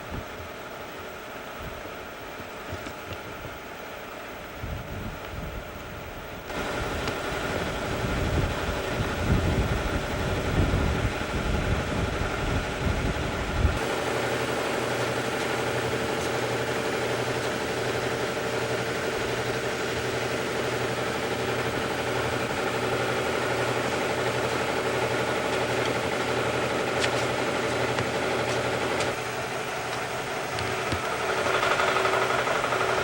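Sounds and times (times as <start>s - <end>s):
rough low engine rumble: 0.0s - 33.0s
engine idling: 6.4s - 33.0s.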